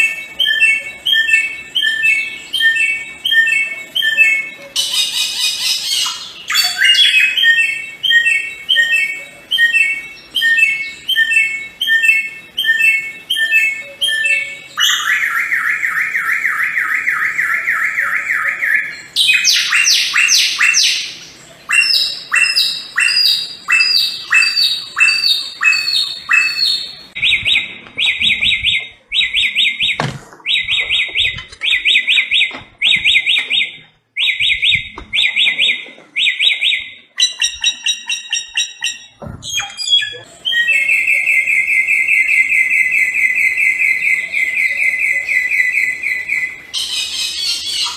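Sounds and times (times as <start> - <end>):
bird chirping song: 0.0 - 47.9.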